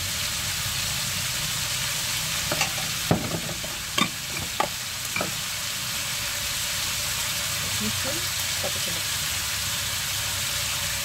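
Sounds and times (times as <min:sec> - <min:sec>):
oil sizzling in a wok: 0:00.0 - 0:11.0.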